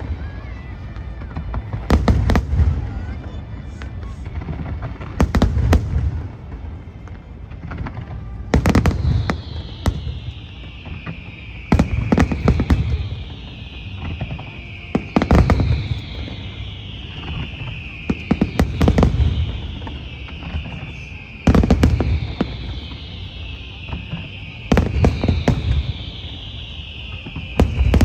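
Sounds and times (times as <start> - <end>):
fireworks bursting with bangs: 0.0 - 28.0.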